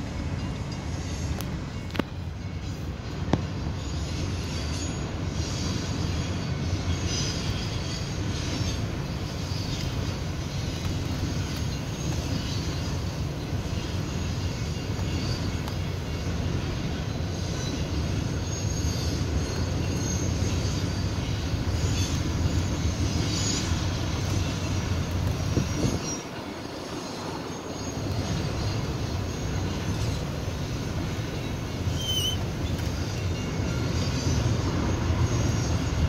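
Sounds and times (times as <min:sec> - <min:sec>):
freight train wheels rumbling: 0:00.0 - 0:36.0
wheel squeals: 0:03.8 - 0:36.0.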